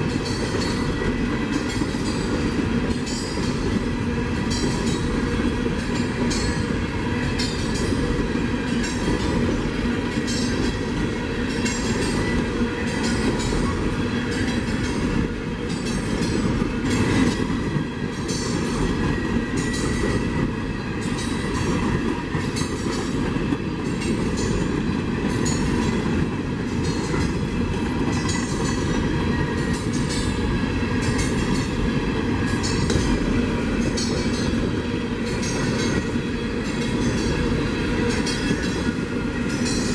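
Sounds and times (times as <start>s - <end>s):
train rumble: 0.0s - 39.9s
train wheels clicking on rails: 0.0s - 39.9s.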